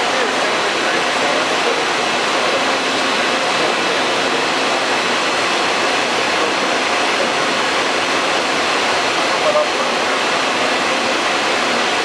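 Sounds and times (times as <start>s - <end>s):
heavy machinery running: 0.0s - 12.0s.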